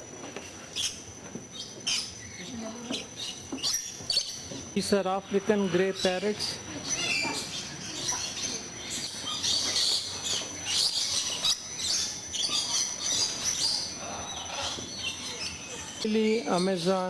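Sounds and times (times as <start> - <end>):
parrots chirping and squawking: 0.4 - 17.0.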